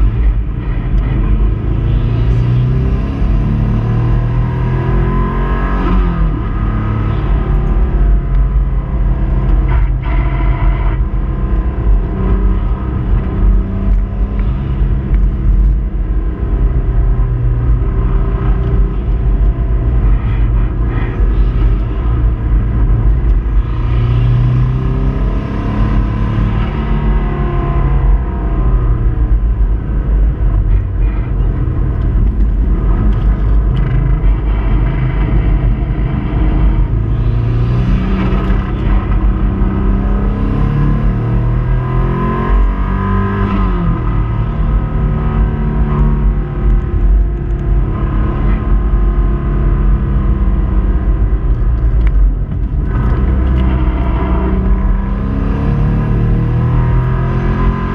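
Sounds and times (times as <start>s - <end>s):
car engine revving under load: 0.0s - 57.9s.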